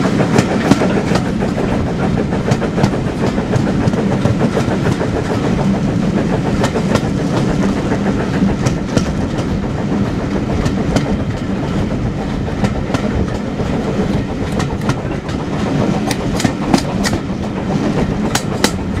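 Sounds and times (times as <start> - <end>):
train coaches rumbling on track: 0.0 - 19.0
wheels clicking over rail joints: 0.0 - 19.0.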